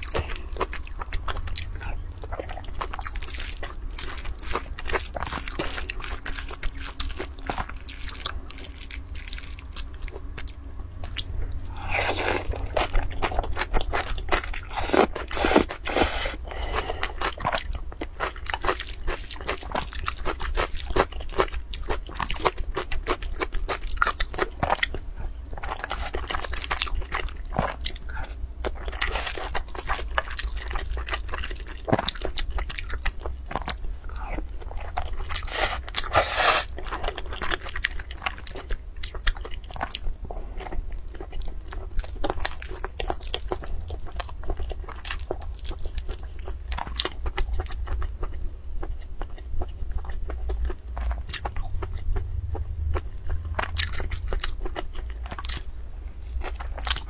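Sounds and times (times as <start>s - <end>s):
mouth chewing food: 0.0s - 57.0s.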